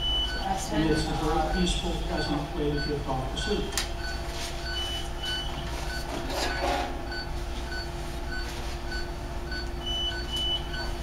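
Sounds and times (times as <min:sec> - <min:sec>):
electrical hum: 0:00.0 - 0:11.0
patient monitor pulse beeps: 0:00.0 - 0:11.0.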